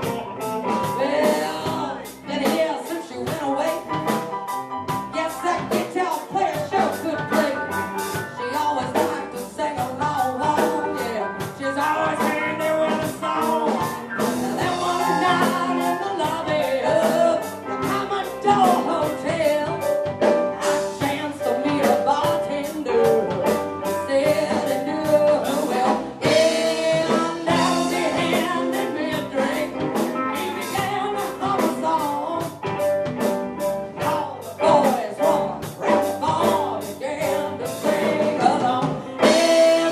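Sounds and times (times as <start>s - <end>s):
person singing: 0.0s - 4.4s, 5.1s - 33.2s, 33.9s - 39.9s
live blues-rock band: 0.0s - 39.9s
steady drum beat: 0.0s - 39.9s.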